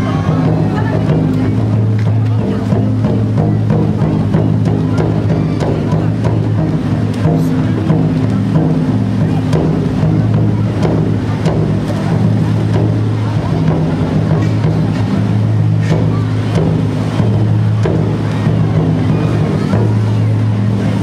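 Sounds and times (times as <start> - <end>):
firework tubes spraying roar: 0.0 - 21.0.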